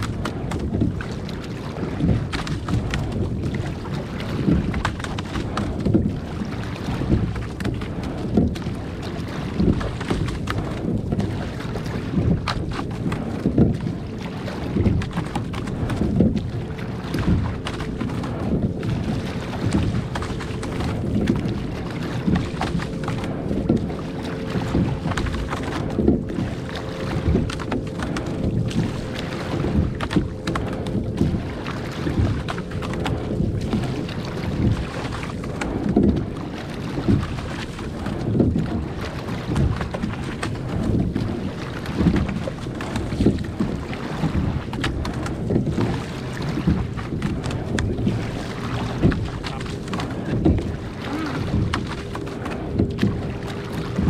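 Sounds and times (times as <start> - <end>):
oars pulling through water: 0.0 - 54.0
wind on microphone: 0.0 - 54.0.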